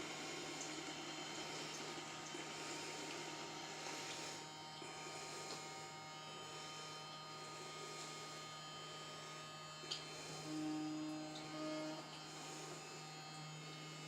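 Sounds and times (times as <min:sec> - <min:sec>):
electric motor hum: 0:00.0 - 0:14.0.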